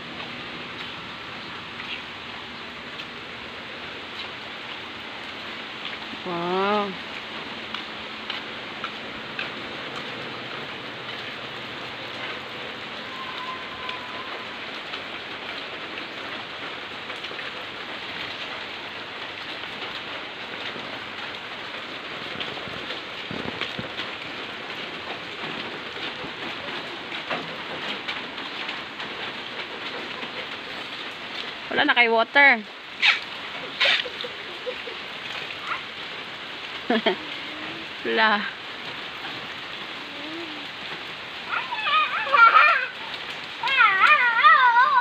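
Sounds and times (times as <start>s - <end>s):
rain falling on foliage: 0.0s - 45.0s.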